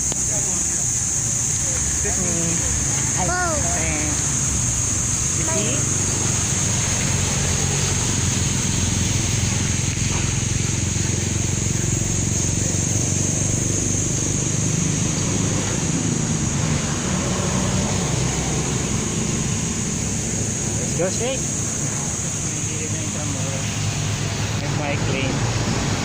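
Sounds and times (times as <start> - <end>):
high-pitched whine: 0.0 - 26.0
street noise: 0.0 - 26.0
wind rumble and hiss: 0.0 - 26.0.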